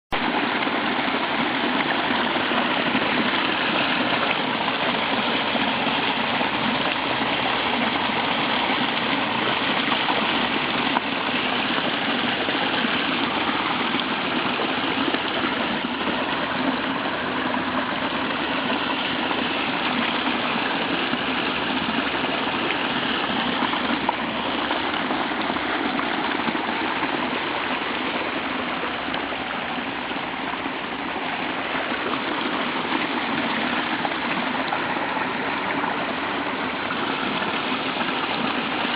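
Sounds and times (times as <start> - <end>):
water rushing down waterfall: 0.1 - 38.9.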